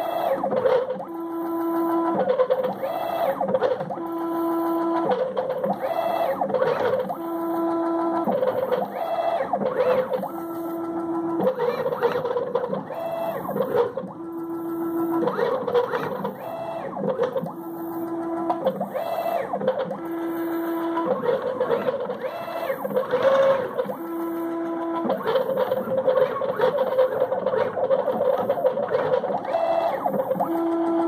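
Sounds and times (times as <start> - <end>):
stepper motors whining: 0.0 - 31.0.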